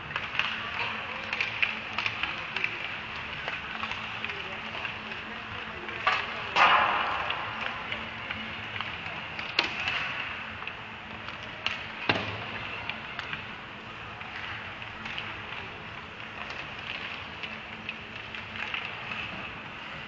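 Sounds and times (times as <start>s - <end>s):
hockey sticks and puck cracking: 0.0s - 20.0s
skate blades scraping ice: 0.0s - 20.0s.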